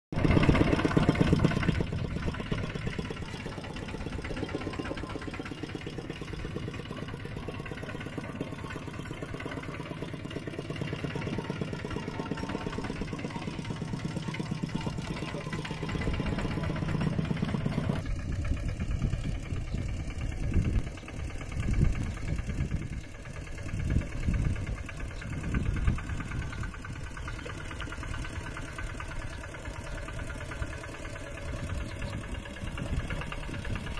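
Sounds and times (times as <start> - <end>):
mini tractor engines running: 0.2 - 33.9.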